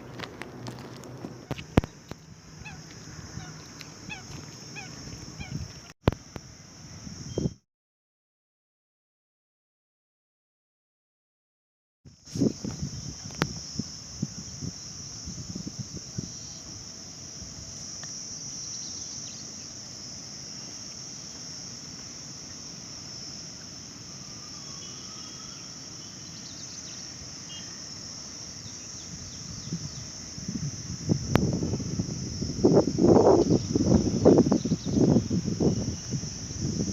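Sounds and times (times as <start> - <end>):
high-pitched insect chorus: 0.0 - 7.6, 12.1 - 36.9.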